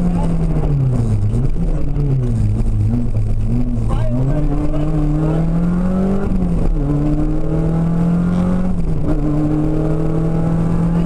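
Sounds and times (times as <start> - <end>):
car engine revving through gears: 0.0 - 11.0.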